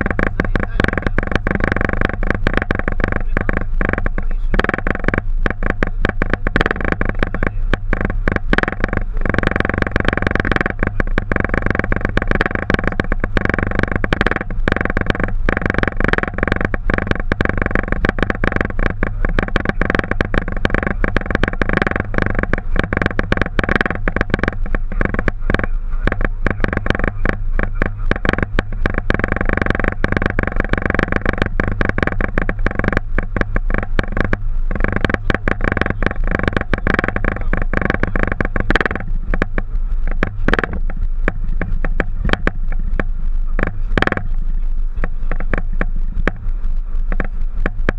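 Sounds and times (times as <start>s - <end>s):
cockpit engine and airflow drone: 0.0s - 47.7s.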